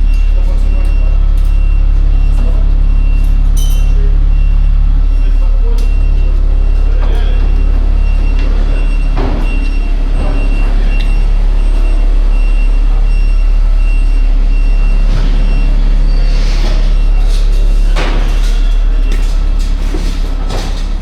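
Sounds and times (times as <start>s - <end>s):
heavy vehicle engine rumbling: 0.0s - 21.0s.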